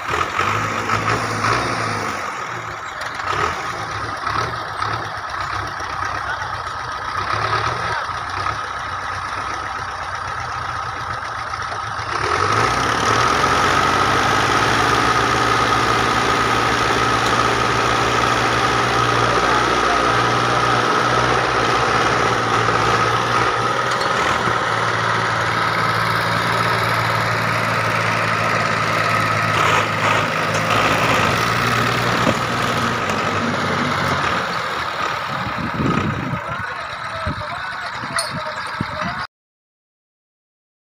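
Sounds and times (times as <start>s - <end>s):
tractor diesel engines under load: 0.0s - 39.3s.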